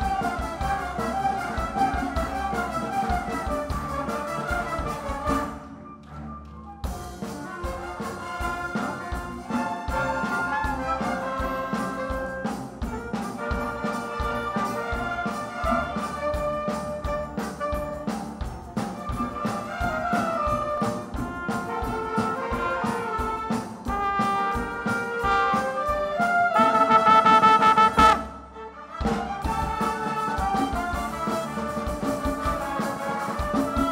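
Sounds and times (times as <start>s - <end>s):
orchestra of strings and percussion: 0.0s - 33.9s.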